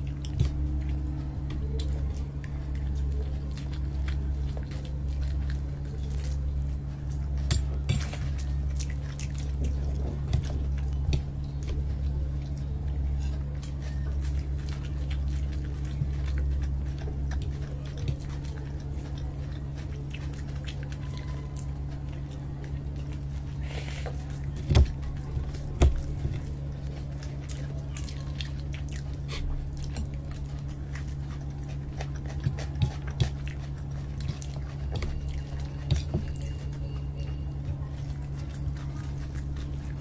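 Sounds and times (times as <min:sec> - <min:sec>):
chewing noodles: 0:00.0 - 0:40.0
steady low hum: 0:00.0 - 0:40.0.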